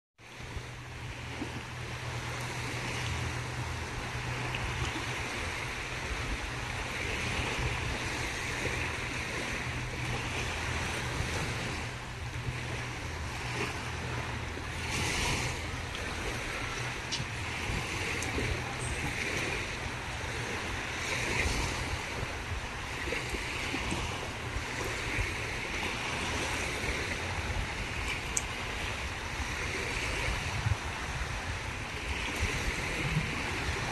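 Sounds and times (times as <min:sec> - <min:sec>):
small waves washing ashore: 0:00.2 - 0:33.9
wind rumble on microphone: 0:00.2 - 0:33.9.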